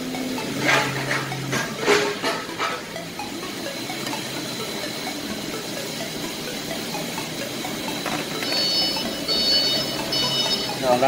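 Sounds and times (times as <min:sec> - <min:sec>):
high electronic beeping: 0:00.0 - 0:11.0
thin high tone: 0:00.0 - 0:11.0.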